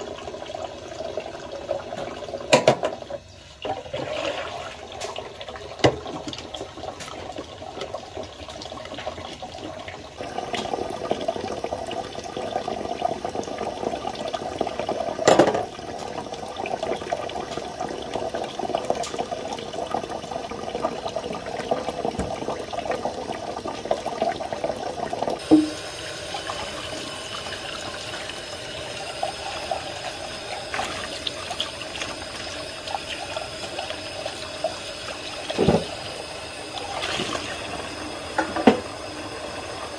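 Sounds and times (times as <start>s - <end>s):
tap water running into metal sink: 0.0s - 39.9s.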